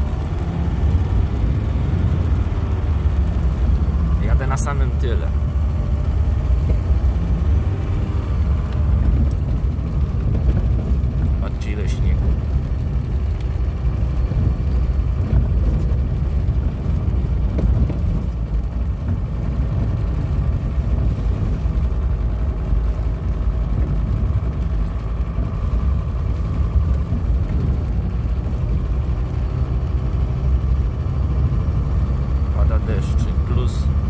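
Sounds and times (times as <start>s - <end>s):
diesel engine drone: 0.0s - 34.0s
tyre and road noise: 0.0s - 34.0s.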